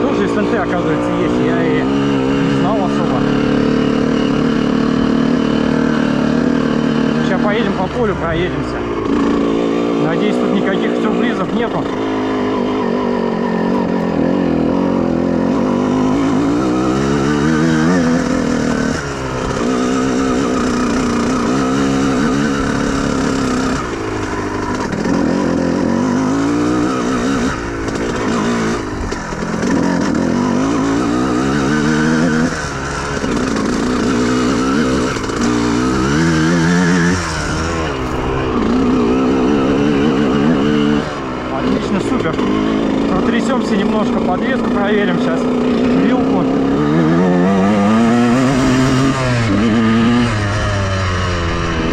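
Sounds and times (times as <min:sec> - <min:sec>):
two-stroke motorcycle revving: 0:00.0 - 0:51.9.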